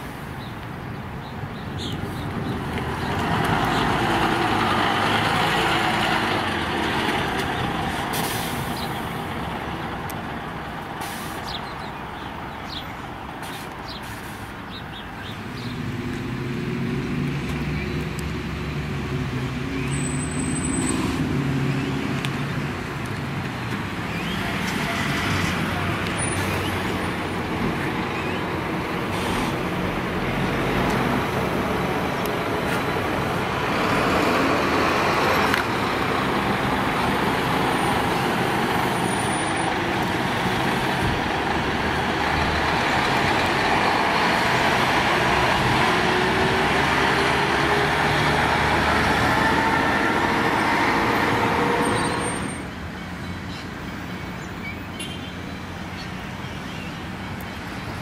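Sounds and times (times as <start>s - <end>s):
background traffic: 0.0s - 58.0s
bus engines accelerating: 0.0s - 58.0s.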